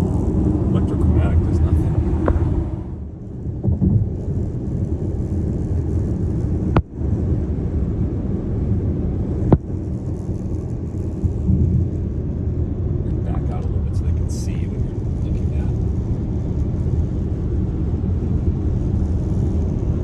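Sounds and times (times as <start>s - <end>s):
car road rumble: 0.0s - 20.0s.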